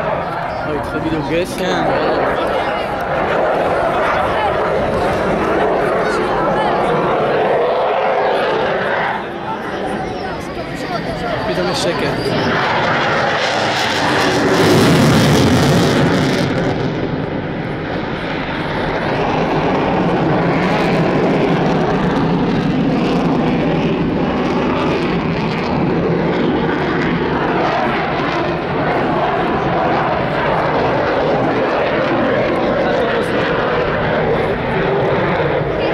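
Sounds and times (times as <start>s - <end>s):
jet engines roaring in flight: 0.0s - 35.9s.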